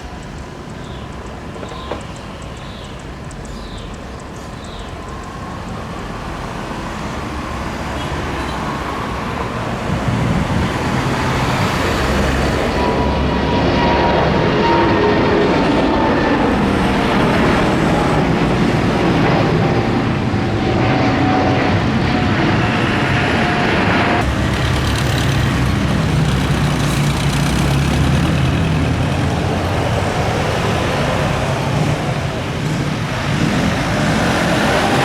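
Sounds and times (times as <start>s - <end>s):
jet engine roar: 0.0s - 35.0s
jet engine whine: 0.0s - 35.0s.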